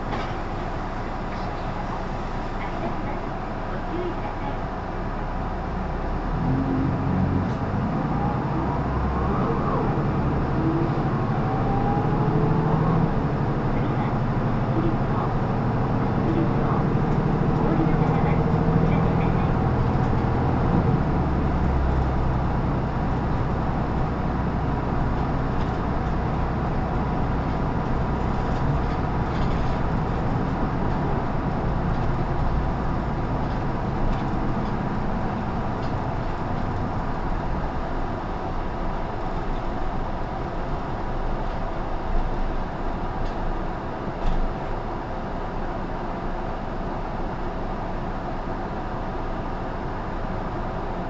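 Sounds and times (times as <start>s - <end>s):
bus diesel engine running: 0.0s - 51.0s
road noise: 0.0s - 51.0s.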